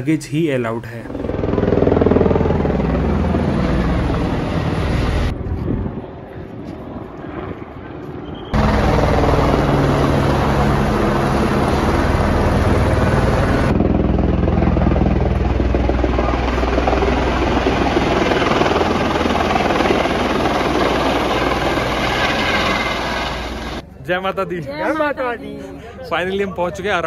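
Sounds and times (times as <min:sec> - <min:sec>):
helicopter rotor and turbine: 0:00.6 - 0:23.8.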